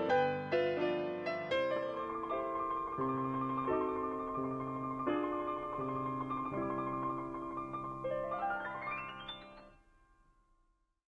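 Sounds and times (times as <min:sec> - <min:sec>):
piano music with held chords: 0:00.0 - 0:09.8.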